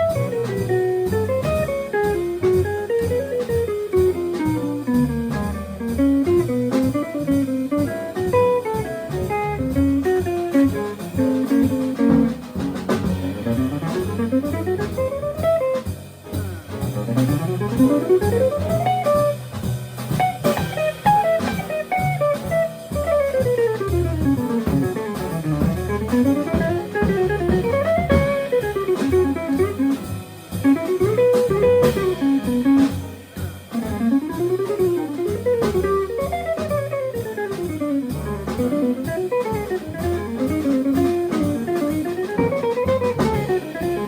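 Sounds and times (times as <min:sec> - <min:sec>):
guitar playing fast runs: 0:00.0 - 0:44.0
jazz quartet playing: 0:00.0 - 0:44.0
walking bass line: 0:00.0 - 0:44.0.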